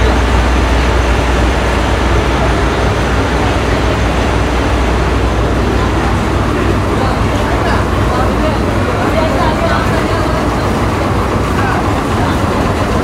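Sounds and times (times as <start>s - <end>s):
deep hum: 0.0s - 13.0s
machinery mechanical noise: 0.0s - 13.0s.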